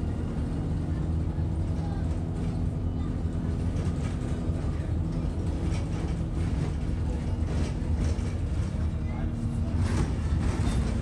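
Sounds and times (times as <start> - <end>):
bus engine drone: 0.0 - 11.0.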